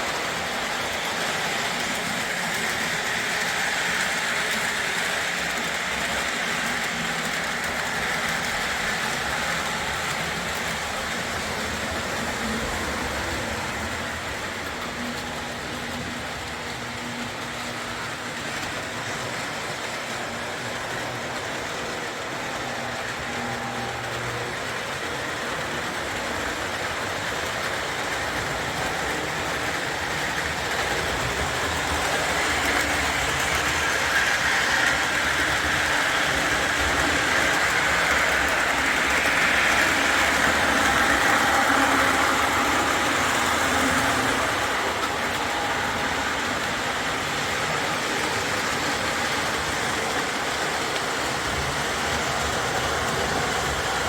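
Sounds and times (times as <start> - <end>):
model train motor hum: 0.0 - 54.0
wheels rolling over rails: 0.0 - 54.0.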